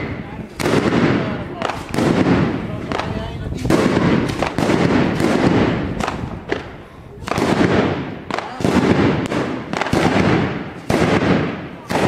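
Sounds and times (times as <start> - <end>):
loud firecracker bangs: 0.0 - 12.0.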